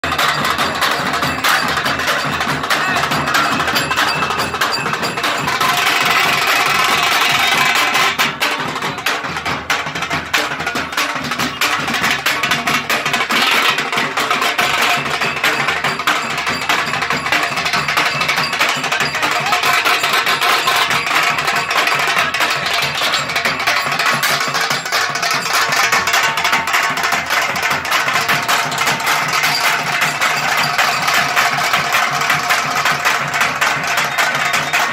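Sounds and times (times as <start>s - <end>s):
drum ensemble beating: 0.0s - 34.9s.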